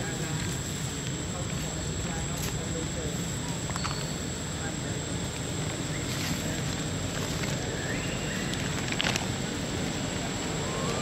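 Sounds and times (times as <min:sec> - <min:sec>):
thin high-pitched whine: 0:00.0 - 0:09.3.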